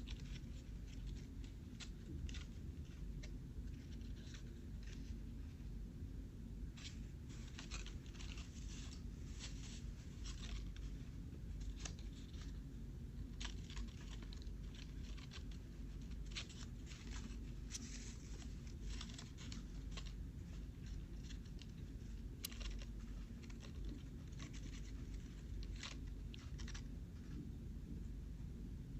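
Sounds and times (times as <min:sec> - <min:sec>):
paper crinkling and rustling: 0:00.0 - 0:05.6, 0:06.7 - 0:27.4
steady low hum: 0:00.0 - 0:28.9.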